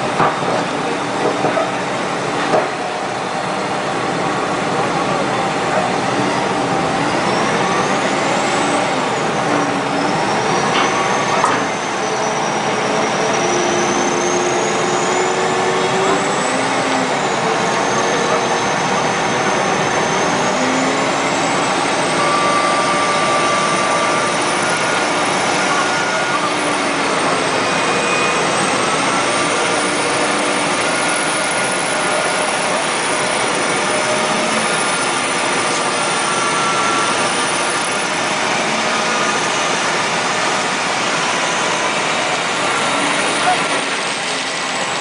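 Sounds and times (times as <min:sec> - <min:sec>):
heavy diesel engines under load: 0:00.0 - 0:45.0.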